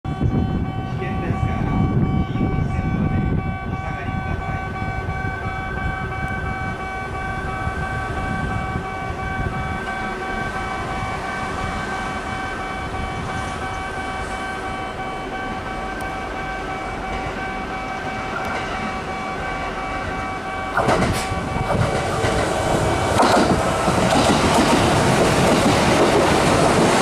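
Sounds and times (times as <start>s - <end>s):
electric train rumbling: 0.1s - 27.0s
electronic warning tones: 0.1s - 27.0s.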